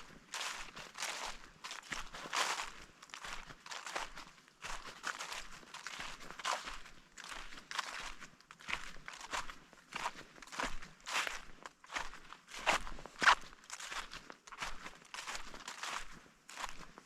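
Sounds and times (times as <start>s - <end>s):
footsteps on forest floor: 0.0s - 17.0s.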